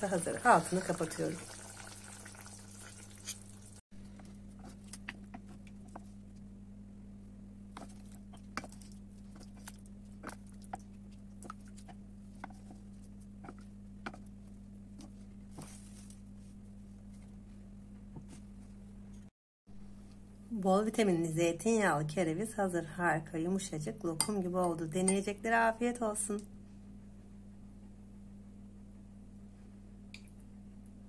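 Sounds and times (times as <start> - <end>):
steady low hum: 3.5 - 31.0.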